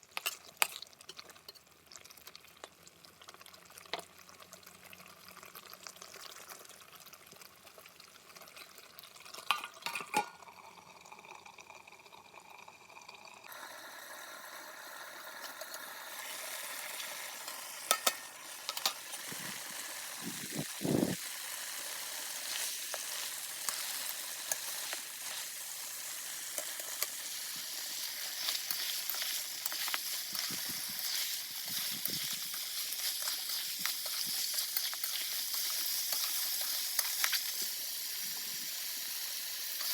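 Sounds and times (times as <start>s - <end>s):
pork sizzling in a pan: 0.0s - 39.9s.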